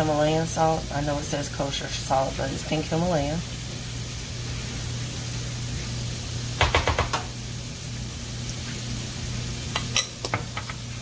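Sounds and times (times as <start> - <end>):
butter sizzling in a skillet: 0.0 - 11.0.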